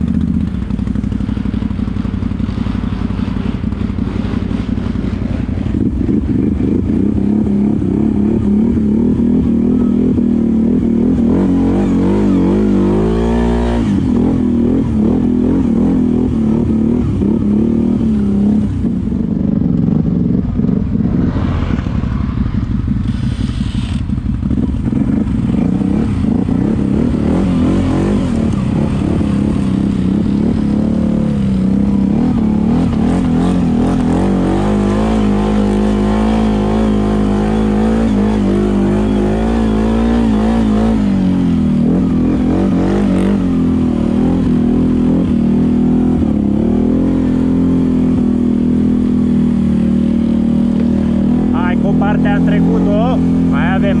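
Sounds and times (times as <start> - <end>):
atv engine under load: 0.0 - 54.0.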